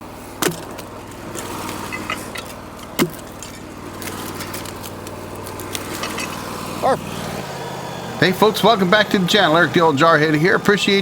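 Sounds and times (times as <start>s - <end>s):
sawmill engine running: 0.0s - 11.0s.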